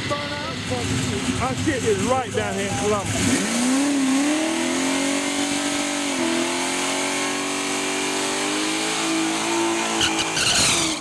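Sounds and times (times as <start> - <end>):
drag car engine revving: 0.0 - 11.0.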